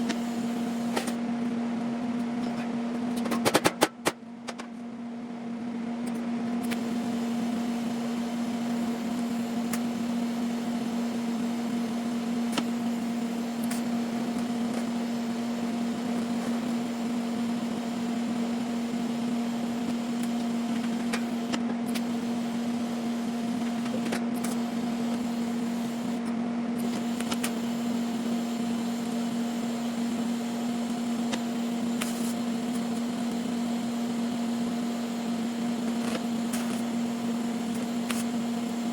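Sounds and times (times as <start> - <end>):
steady machine hum: 0.0 - 38.9.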